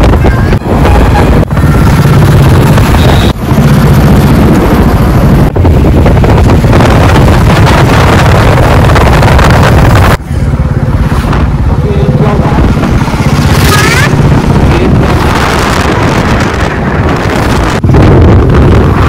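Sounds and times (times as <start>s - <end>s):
motorbike engine running: 0.0s - 19.0s
wind buffeting microphone: 0.0s - 19.0s.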